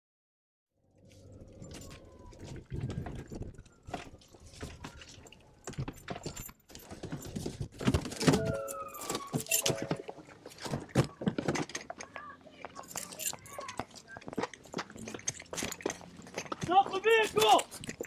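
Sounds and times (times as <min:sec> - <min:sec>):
gear knocking and jangling: 0:01.2 - 0:08.5, 0:10.5 - 0:18.0.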